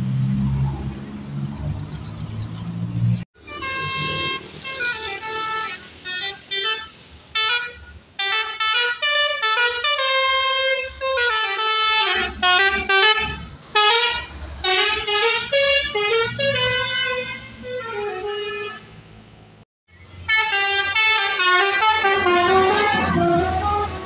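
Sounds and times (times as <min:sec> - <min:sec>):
multi-tone bus air horn tune: 0:03.4 - 0:19.0, 0:20.2 - 0:24.0.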